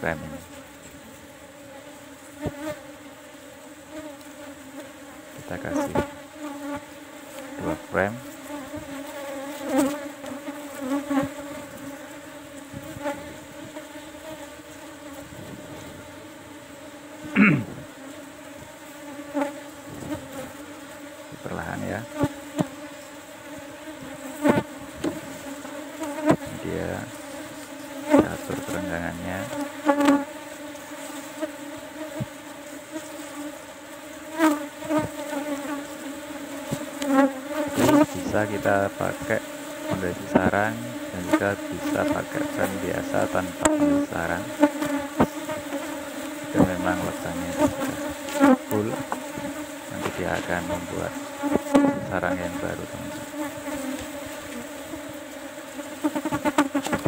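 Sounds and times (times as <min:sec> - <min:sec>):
bees humming: 0:00.0 - 0:57.0.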